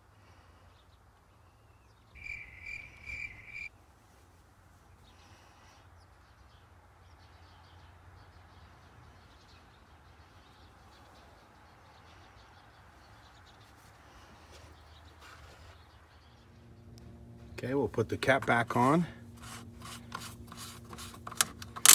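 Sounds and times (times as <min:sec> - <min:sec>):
steady low hum: 0:00.0 - 0:07.1, 0:09.8 - 0:21.9.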